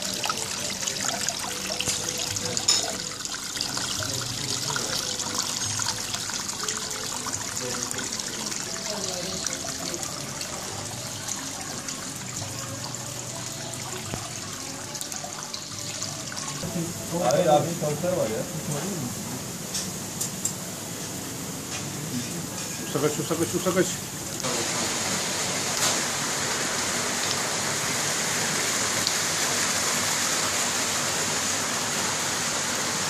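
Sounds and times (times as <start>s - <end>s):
waterfall splashing and trickling: 0.0s - 18.2s, 23.0s - 33.0s.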